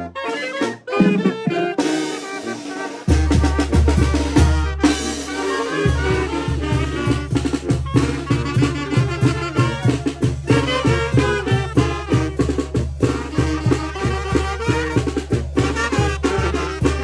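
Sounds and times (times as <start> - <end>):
brass band playing: 0.0 - 17.0
steady drum beat: 0.6 - 17.0.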